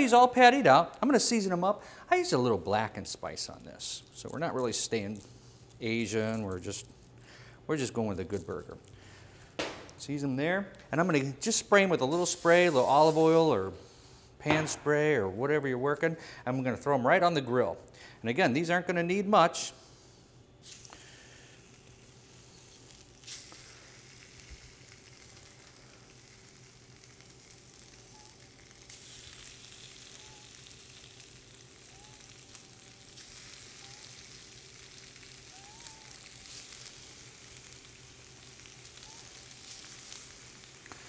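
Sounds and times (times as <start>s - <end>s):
fish patties sizzling on grill: 0.0s - 9.6s, 11.4s - 14.3s, 19.9s - 41.0s.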